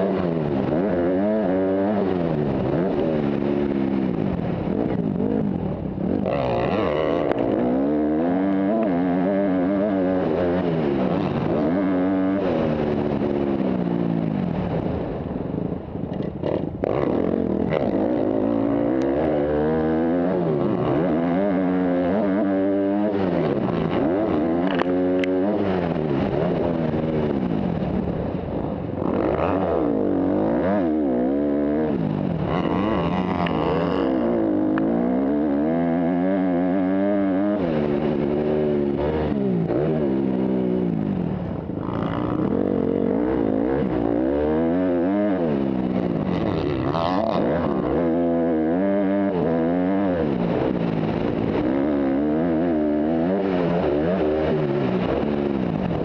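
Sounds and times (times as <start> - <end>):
dirt bike engine revving: 0.0 - 14.8, 16.4 - 28.0, 29.0 - 56.0.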